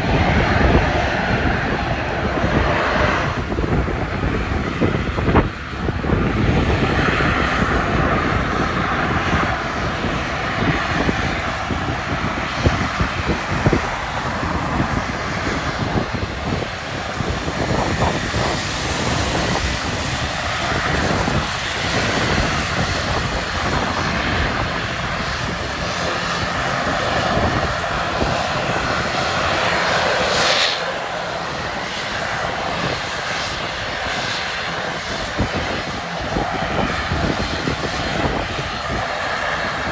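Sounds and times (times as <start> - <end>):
turboprop engines drone: 0.0 - 39.9.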